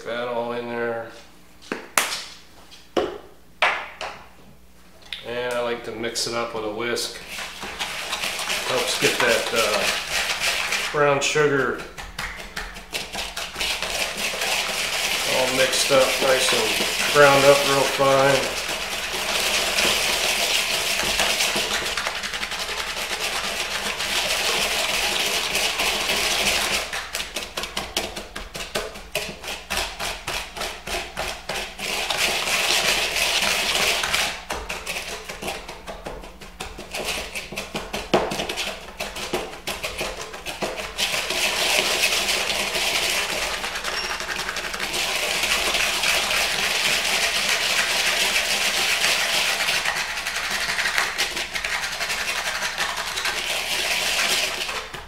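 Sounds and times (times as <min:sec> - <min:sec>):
whisk stirring dry rub: 0:06.2 - 0:55.0.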